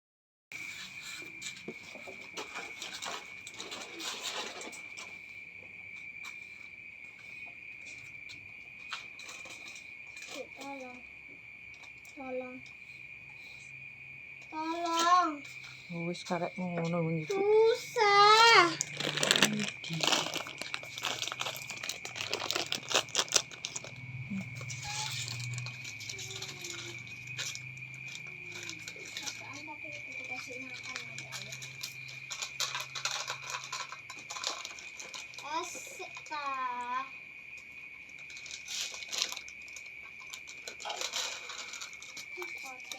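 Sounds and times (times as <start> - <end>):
cricket trilling: 0.5 - 42.9
cats eating crunchy food: 0.6 - 5.6, 6.2 - 11.0, 17.3 - 42.9.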